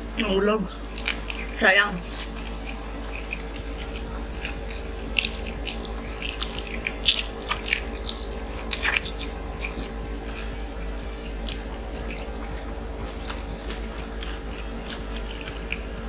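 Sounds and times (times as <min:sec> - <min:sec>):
people chewing crispy chicken: 0:00.0 - 0:16.0
steady low hum: 0:00.0 - 0:16.0.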